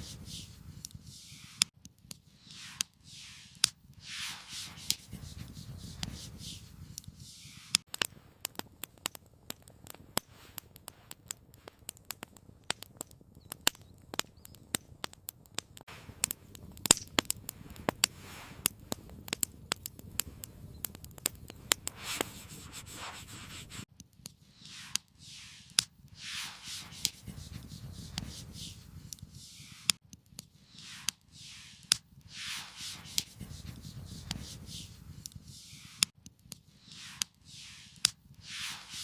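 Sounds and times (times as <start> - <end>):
campfire crackling: 0.0 - 39.0
soft rushing of fire: 0.0 - 39.0.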